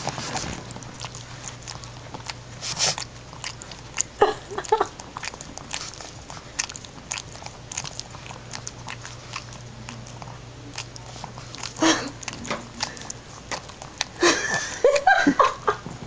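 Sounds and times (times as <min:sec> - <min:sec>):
dog licking and smacking: 0:00.0 - 0:15.4.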